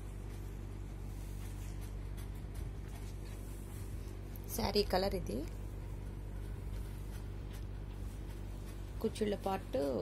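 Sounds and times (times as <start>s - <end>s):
soft ticks and rustles: 0.0s - 10.0s
steady low hum: 0.0s - 10.0s.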